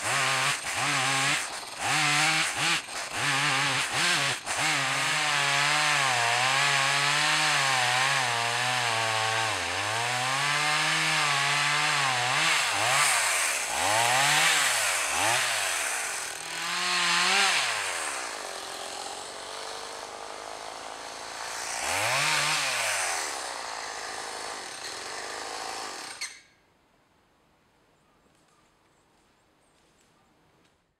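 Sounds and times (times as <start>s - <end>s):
chainsaw cutting and revving: 0.0s - 26.4s.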